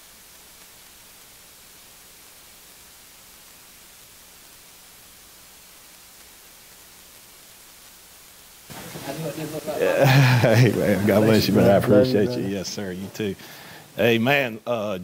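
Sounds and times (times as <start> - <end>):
electronic hiss: 0.0 - 15.0.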